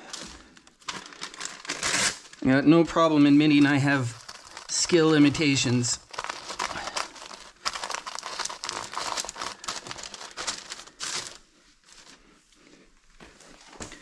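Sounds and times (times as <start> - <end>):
paper crumpling: 0.0 - 2.4, 3.0 - 12.3.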